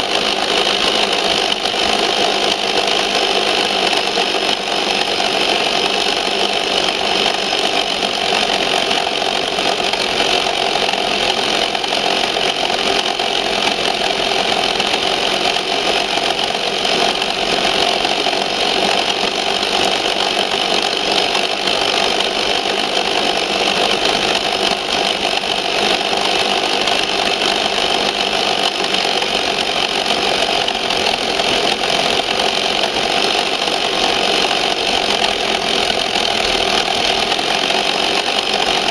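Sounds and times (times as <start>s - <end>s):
electric motor and gearbox whine: 0.0s - 38.9s
toy truck body rattling: 0.0s - 38.9s.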